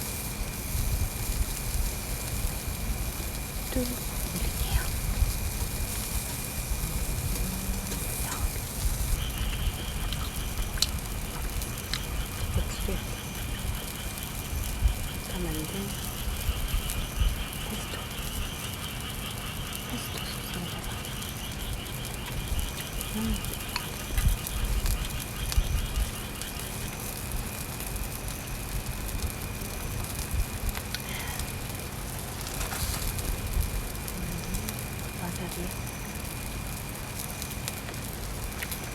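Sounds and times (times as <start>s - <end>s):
high insect trill: 0.0s - 38.9s
rain pattering on a tarp: 0.0s - 38.9s.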